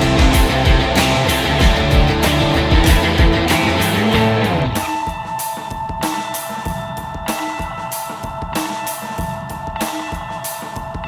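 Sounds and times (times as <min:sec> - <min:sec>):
rock drum beat: 0:00.0 - 0:11.0
steady held notes: 0:00.0 - 0:11.0.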